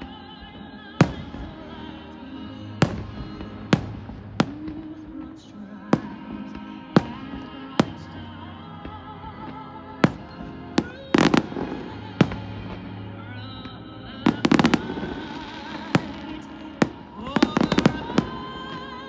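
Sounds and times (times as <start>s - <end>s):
background music: 0.0s - 19.0s
fireworks bursting: 0.0s - 19.0s.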